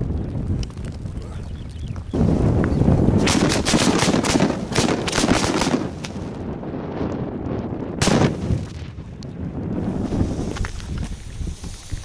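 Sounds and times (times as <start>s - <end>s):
firecrackers cracking: 0.0s - 12.0s
wind buffeting microphone: 0.0s - 12.0s.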